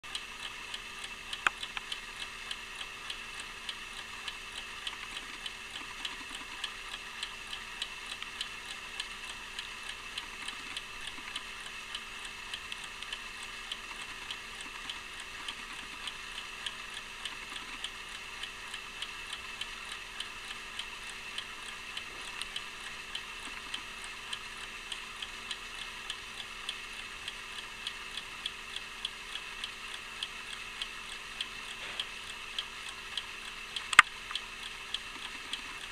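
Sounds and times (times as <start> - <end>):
clock ticking: 0.0 - 35.9.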